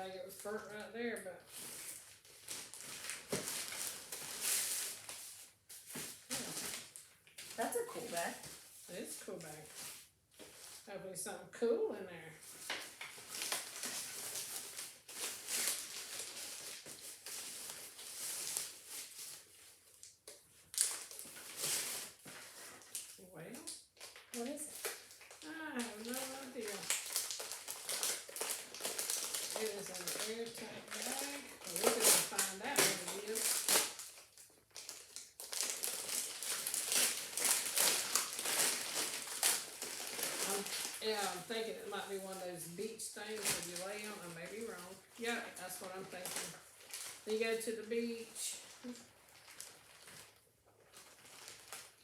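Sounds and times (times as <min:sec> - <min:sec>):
plastic packaging crinkling: 0:00.0 - 0:10.9, 0:12.4 - 0:52.0.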